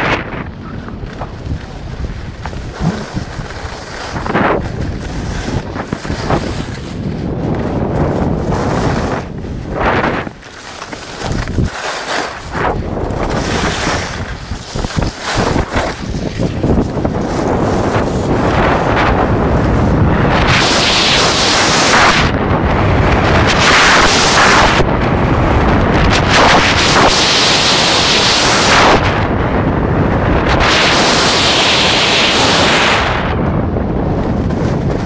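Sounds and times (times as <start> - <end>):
ski edges scraping snow: 0.0 - 22.3, 23.5 - 24.8, 26.2 - 29.1, 30.5 - 33.0
wind buffeting microphone: 0.0 - 35.0.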